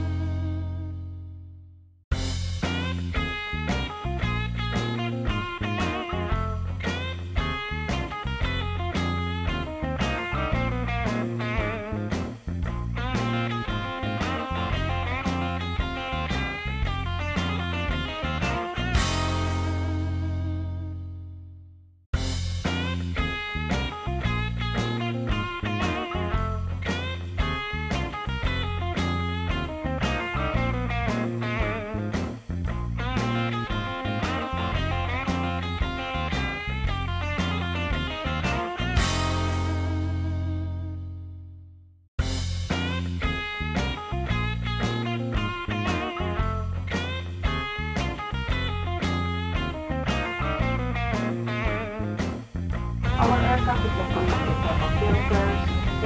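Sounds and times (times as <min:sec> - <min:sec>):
guitar-led instrumental music: 0:00.0 - 0:01.4, 0:02.1 - 0:21.4, 0:22.2 - 0:41.4, 0:42.2 - 0:56.0
steady bass line: 0:00.0 - 0:21.4, 0:22.2 - 0:41.6, 0:42.2 - 0:56.0.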